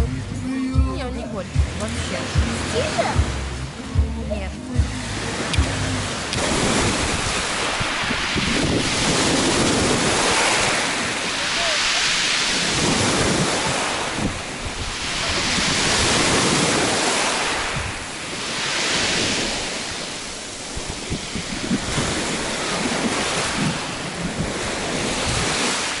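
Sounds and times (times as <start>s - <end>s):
wind buffeting microphone: 0.0s - 26.0s
waves washing up pebble beach: 4.9s - 26.0s.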